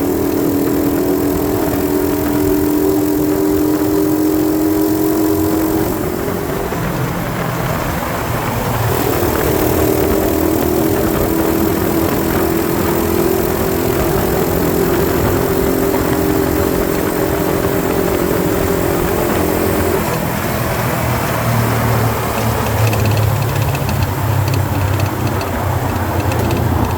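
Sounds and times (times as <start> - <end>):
dirt bike engine running: 0.0 - 26.9
wind and road noise: 0.0 - 26.9.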